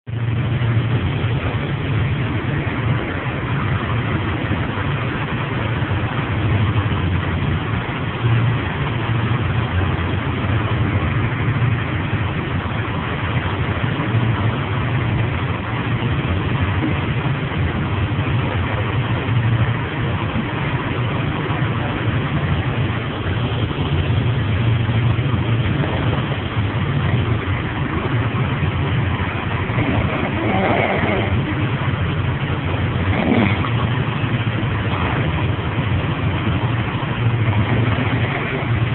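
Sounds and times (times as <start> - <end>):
machinery drone: 0.1 - 38.9.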